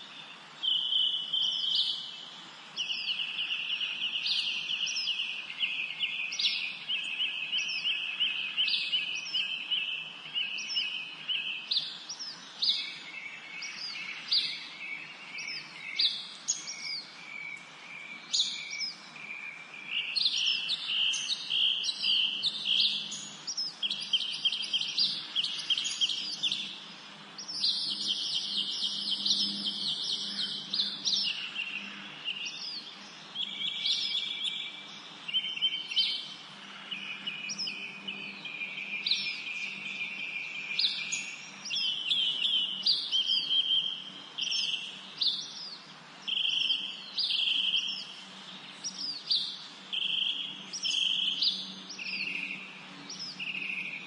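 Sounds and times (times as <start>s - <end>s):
songbirds buzzy trills: 0.0s - 54.0s
songbirds high chirps: 0.0s - 54.0s.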